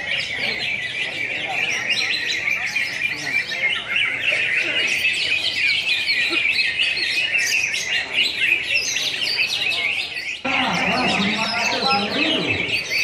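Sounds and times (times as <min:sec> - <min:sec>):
chorus of caged birds singing: 0:00.0 - 0:13.0.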